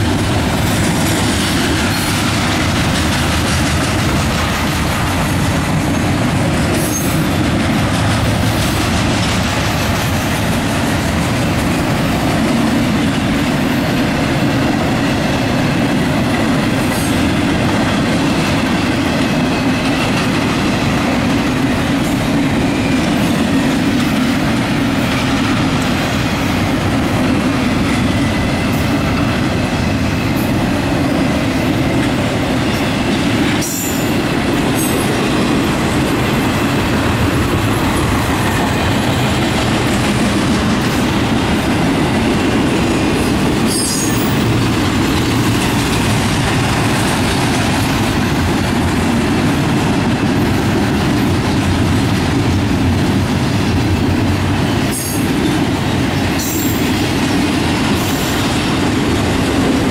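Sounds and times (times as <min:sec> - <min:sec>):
wheels clattering over rail joints: 0:00.0 - 0:56.8.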